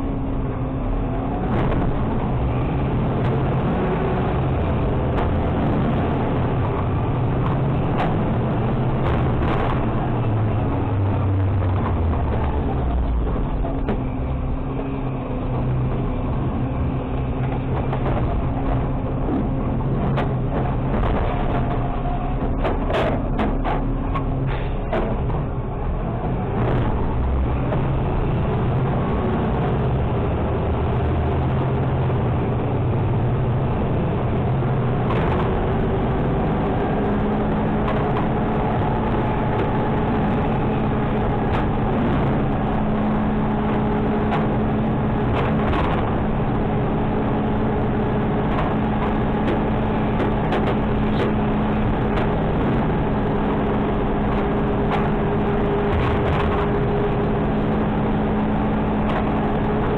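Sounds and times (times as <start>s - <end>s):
garbage truck running: 0.0s - 59.9s
steady hum: 0.0s - 59.9s.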